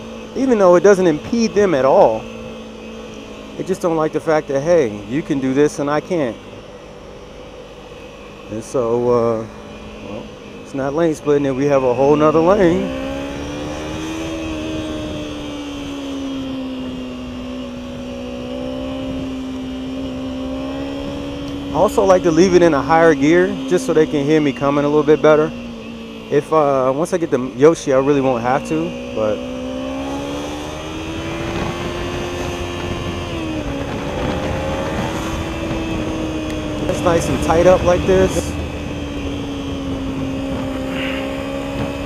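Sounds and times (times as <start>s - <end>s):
motorcycle engine running: 0.0s - 42.0s
wind and road noise: 0.0s - 42.0s.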